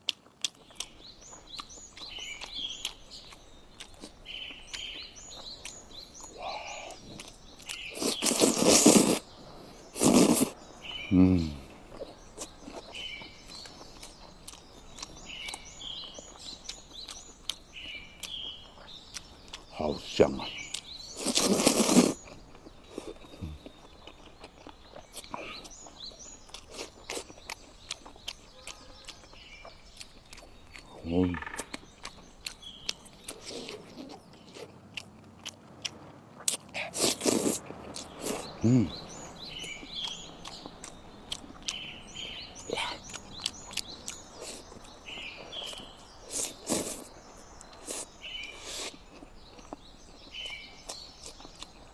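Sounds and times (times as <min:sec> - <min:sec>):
biting and chewing food: 0:00.0 - 0:51.9
food crunching: 0:00.0 - 0:51.9
small birds chirping: 0:00.0 - 0:51.9.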